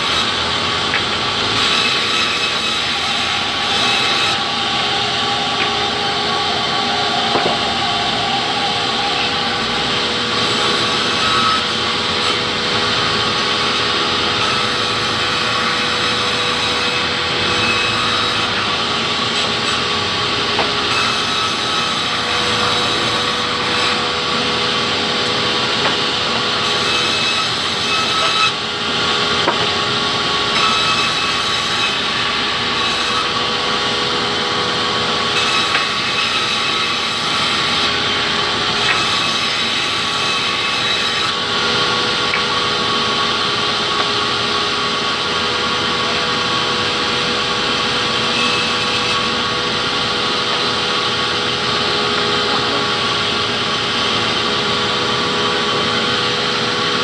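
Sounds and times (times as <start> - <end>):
band saw cutting timber: 0.0 - 57.0.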